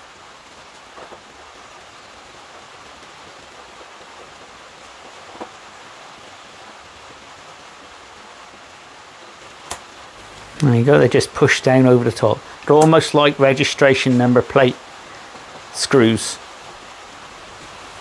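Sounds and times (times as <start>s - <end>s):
rain on a roof: 0.0s - 18.0s.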